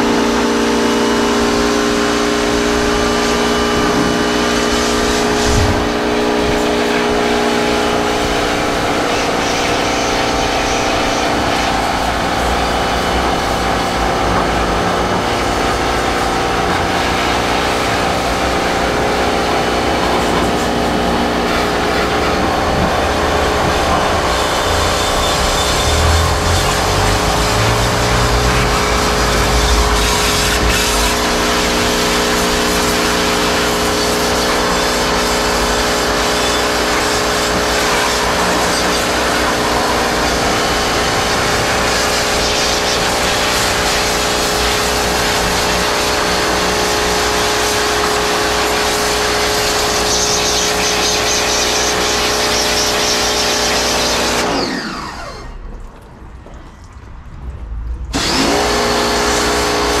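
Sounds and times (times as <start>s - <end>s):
pressure washer motor humming: 0.0s - 55.8s, 58.1s - 60.0s
water spray hissing: 0.1s - 54.5s, 58.2s - 60.0s.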